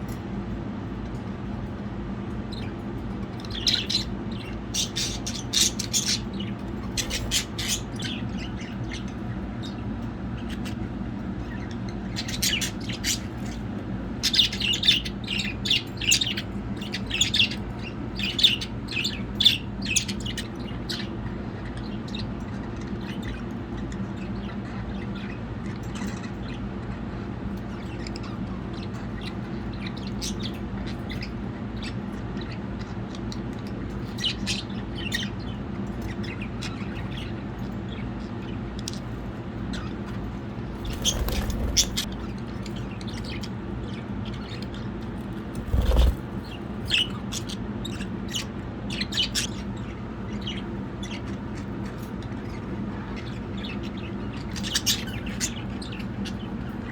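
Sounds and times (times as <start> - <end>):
budgerigars chirping: 2.5 - 56.9.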